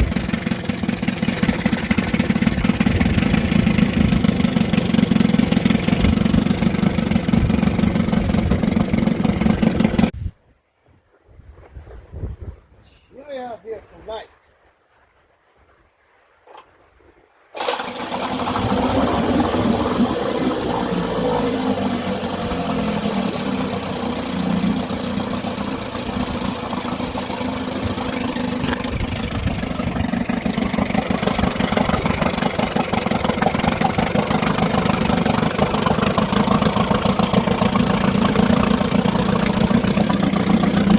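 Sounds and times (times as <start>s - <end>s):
outboard motor running: 0.0s - 10.1s, 17.6s - 40.9s.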